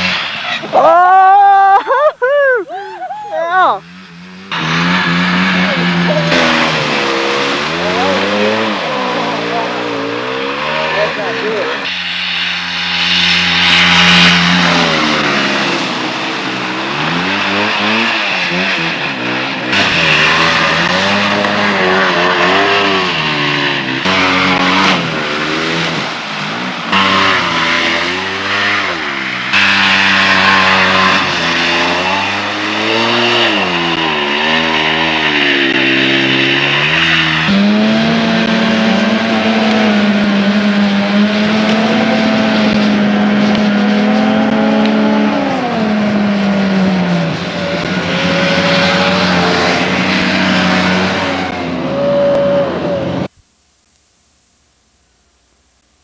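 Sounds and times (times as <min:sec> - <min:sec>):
snowmobile engines revving: 0:00.0 - 0:53.3.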